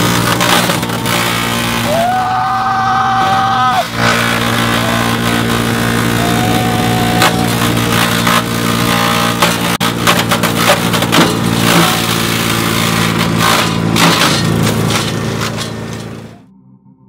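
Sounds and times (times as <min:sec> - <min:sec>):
wood chipper engine drone: 0:00.0 - 0:16.5.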